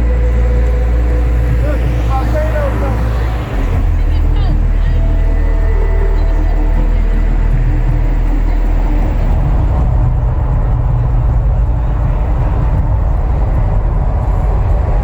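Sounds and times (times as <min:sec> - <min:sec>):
deep steady eruption rumble: 0:00.0 - 0:15.0.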